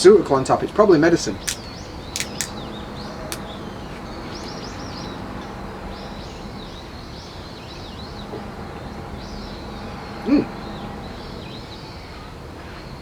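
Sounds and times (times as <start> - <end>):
outdoor background hum: 0.0 - 13.0
small birds chirping: 0.3 - 12.2.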